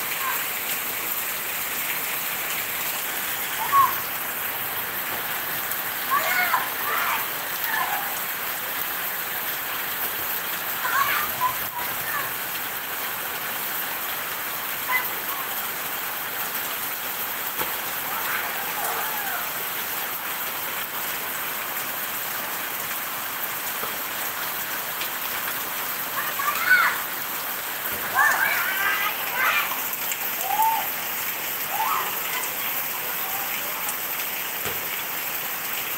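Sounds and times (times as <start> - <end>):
heavy rain on ground and leaves: 0.0 - 35.9.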